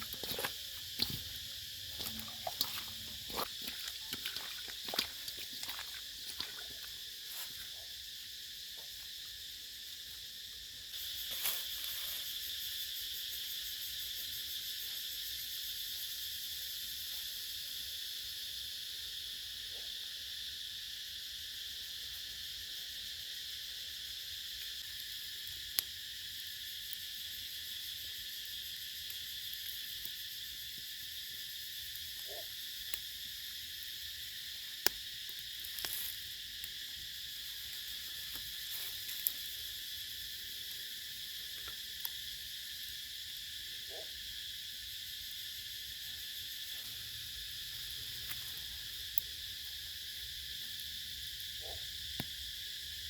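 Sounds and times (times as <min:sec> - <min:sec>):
high insect chorus: 0:00.0 - 0:53.0.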